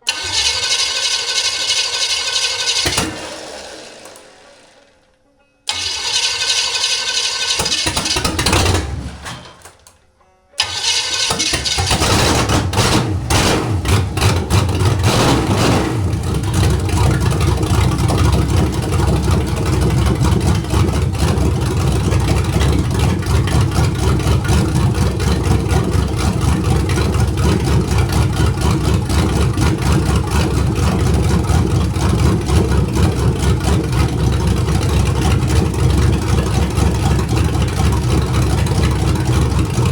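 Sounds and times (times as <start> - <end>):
car engine starting and idling: 0.0 - 9.9, 10.6 - 39.9.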